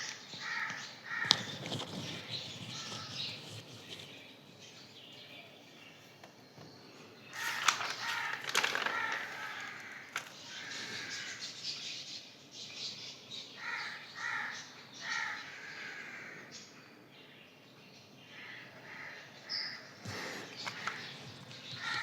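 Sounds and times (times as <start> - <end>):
birds calling harshly: 0.0 - 16.8, 18.2 - 22.0.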